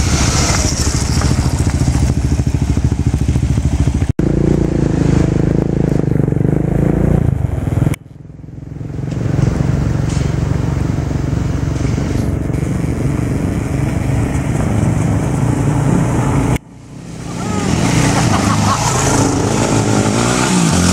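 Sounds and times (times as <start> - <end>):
motorcycle engines droning: 0.0 - 20.9.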